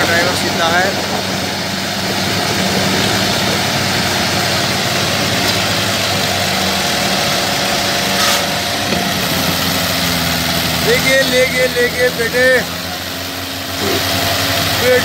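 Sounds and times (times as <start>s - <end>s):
tractor engines droning: 0.0s - 15.0s.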